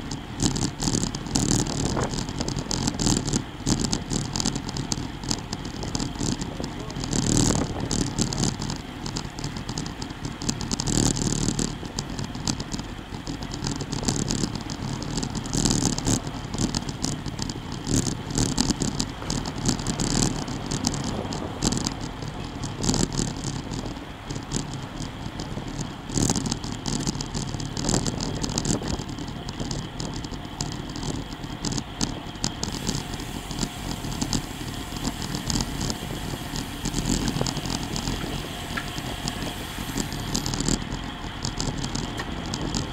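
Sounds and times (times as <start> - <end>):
bicycle freewheel clicking: 0.0 - 42.9
bicycle road and frame rattle: 0.0 - 42.9
wind rushing over microphone: 0.0 - 42.9.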